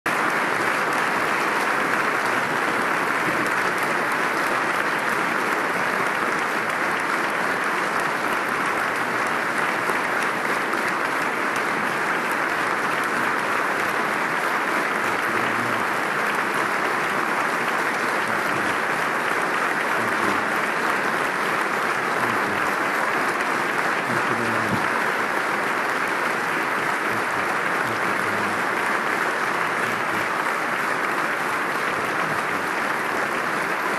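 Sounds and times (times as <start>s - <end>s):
audience applauding: 0.1s - 33.9s.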